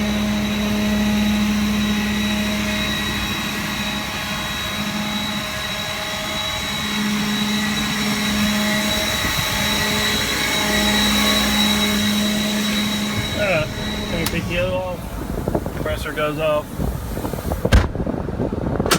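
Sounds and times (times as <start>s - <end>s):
air compressor whining: 0.0s - 18.9s
truck engine droning: 0.0s - 18.9s.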